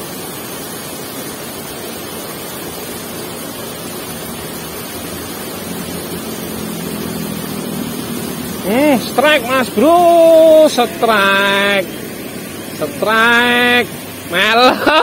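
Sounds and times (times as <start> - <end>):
low engine hum: 0.0 - 15.0
water rushing through sluice gate: 0.0 - 15.0.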